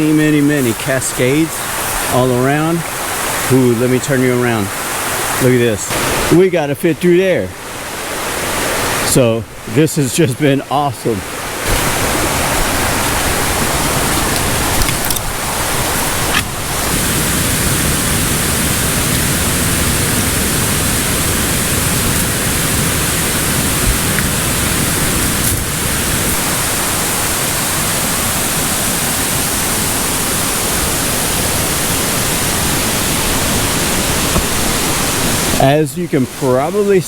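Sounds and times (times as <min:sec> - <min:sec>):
rush of falling water: 0:00.0 - 0:37.0.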